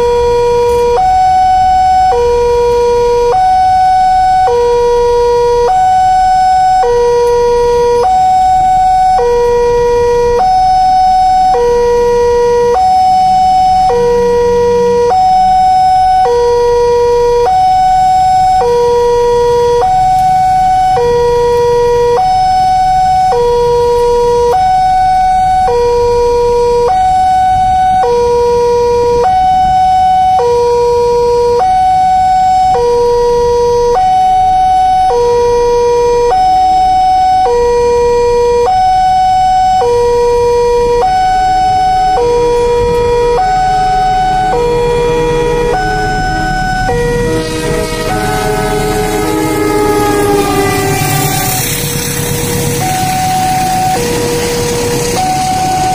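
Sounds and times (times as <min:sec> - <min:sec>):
two-tone level-crossing alarm: 0:00.0 - 0:55.9.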